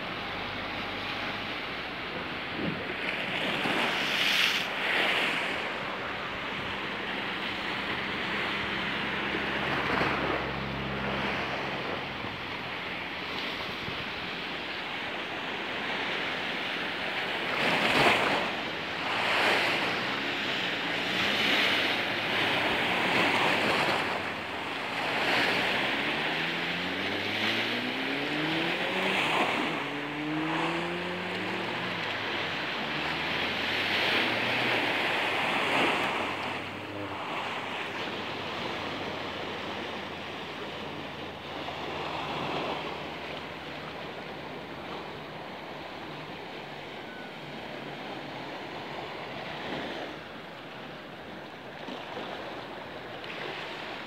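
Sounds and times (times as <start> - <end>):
sea waves on concrete wall: 0.0 - 54.0.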